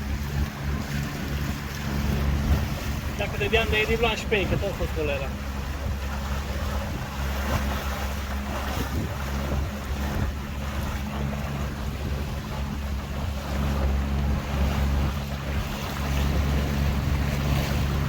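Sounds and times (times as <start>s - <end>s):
boat engine running: 0.0s - 18.0s
water rushing past hull: 0.0s - 18.0s
wind buffeting microphone: 0.0s - 18.0s.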